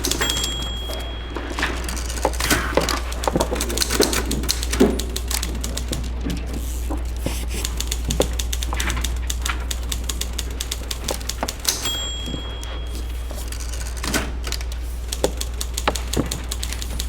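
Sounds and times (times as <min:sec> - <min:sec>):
clicks knocks and thuds: 0:00.0 - 0:17.0.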